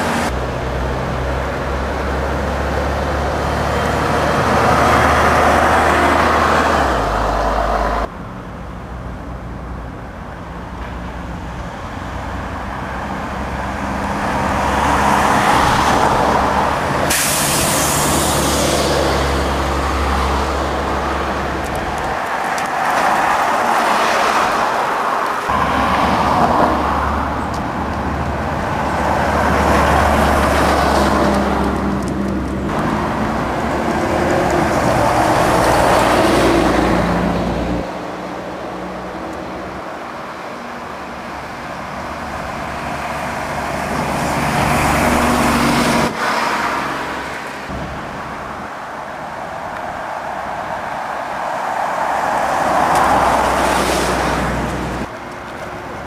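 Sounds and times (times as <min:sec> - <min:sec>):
buses passing with engine drone: 0:00.0 - 0:56.0
road traffic noise: 0:00.0 - 0:56.0.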